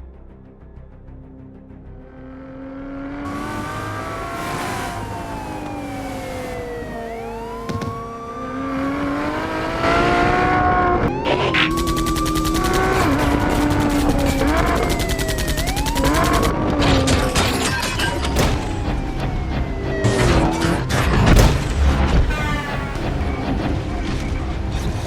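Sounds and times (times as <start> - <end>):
car engines revving: 2.0 - 25.0.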